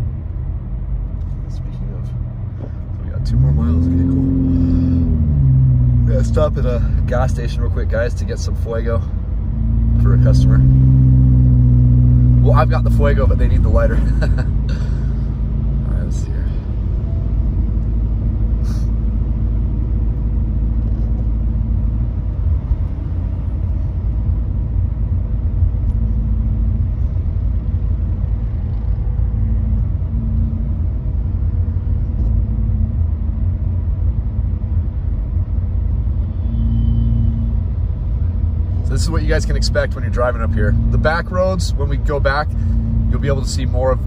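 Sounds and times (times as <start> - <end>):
car road rumble on wet pavement: 0.0 - 44.0.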